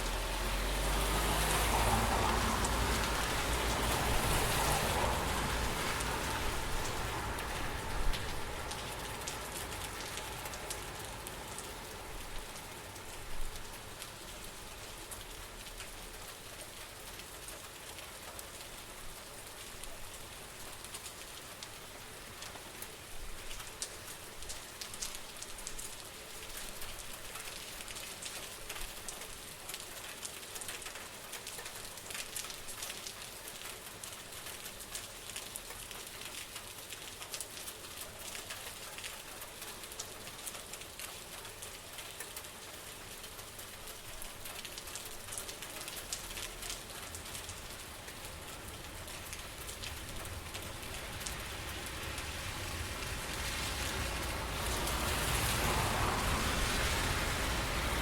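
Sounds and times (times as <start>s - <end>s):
rain on hard surfaces: 0.0s - 58.0s.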